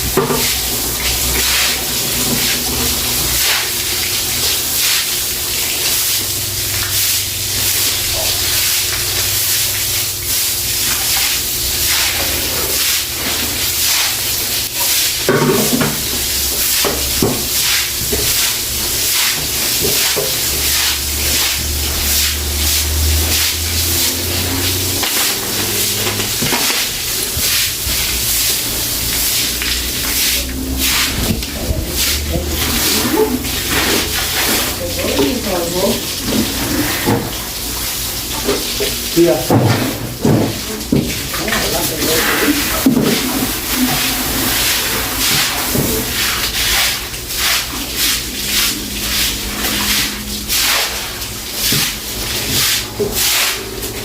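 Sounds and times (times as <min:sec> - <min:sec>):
stiff broom scrubbing wet floor: 0:00.0 - 0:54.0.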